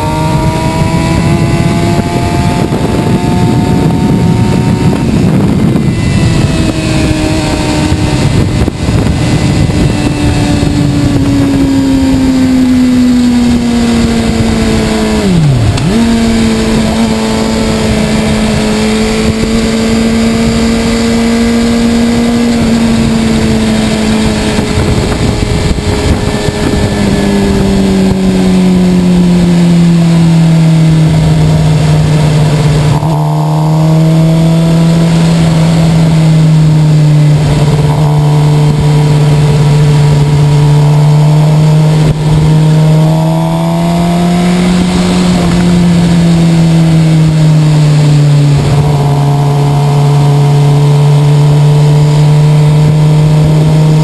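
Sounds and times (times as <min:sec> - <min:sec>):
motorcycle engine cruising: 0:00.0 - 0:54.0
rushing wind: 0:00.0 - 0:54.0.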